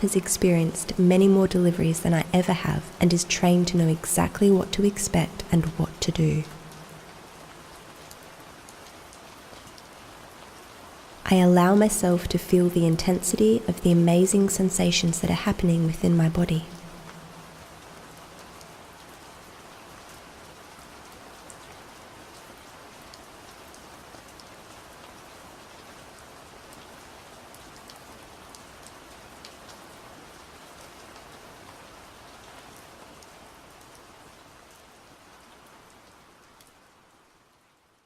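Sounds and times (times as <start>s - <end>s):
gentle rain: 0.0s - 38.0s.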